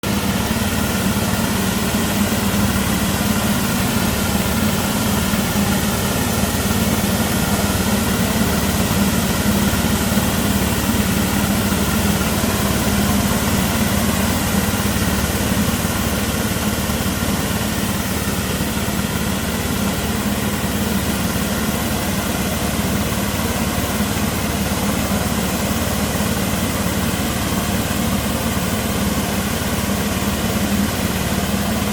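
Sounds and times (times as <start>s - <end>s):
sprayer engine hum: 0.0s - 31.9s.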